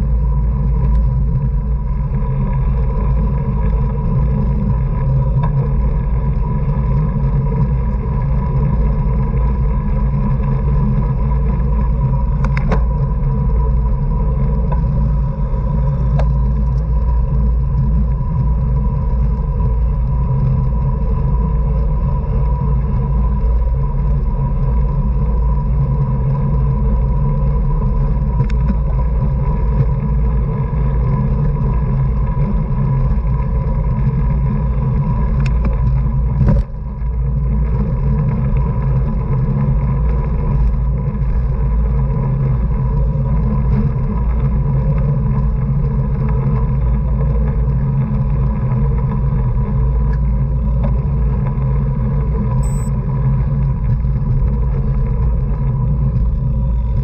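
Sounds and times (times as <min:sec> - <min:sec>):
thin steady whine: 0:00.0 - 0:57.0
wind rumble on microphone: 0:00.0 - 0:57.0.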